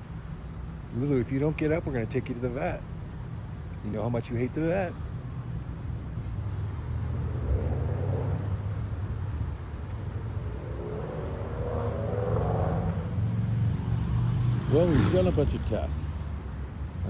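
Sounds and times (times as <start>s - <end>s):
steady low motor hum: 0.0s - 17.0s.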